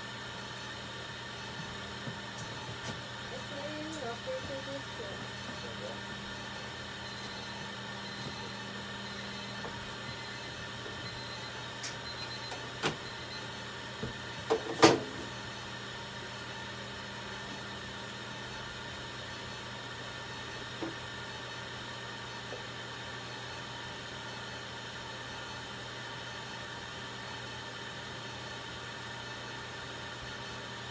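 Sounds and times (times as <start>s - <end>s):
equipment humming: 0.0s - 30.9s.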